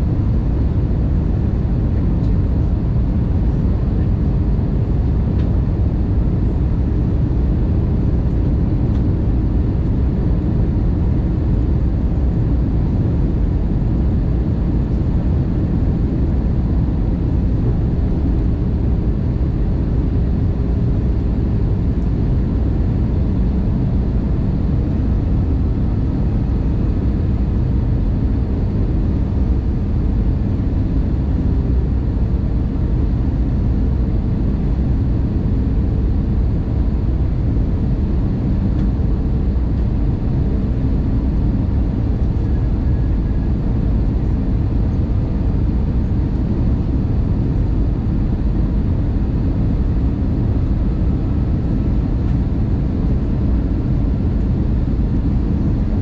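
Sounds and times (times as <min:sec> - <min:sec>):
aircraft cabin drone: 0:00.0 - 0:56.0
faint steady hum: 0:00.0 - 0:56.0.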